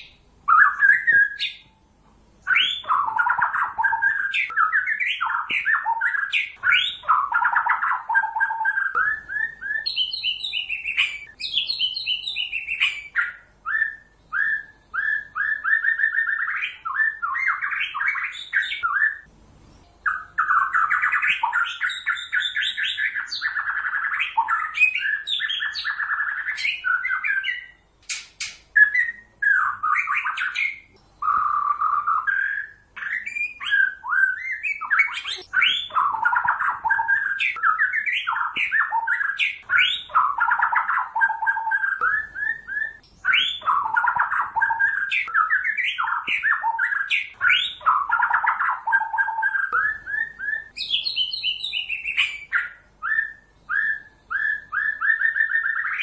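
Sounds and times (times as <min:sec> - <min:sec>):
bird singing whistled phrases: 0:00.0 - 0:01.8, 0:02.4 - 0:19.3, 0:20.0 - 0:56.0.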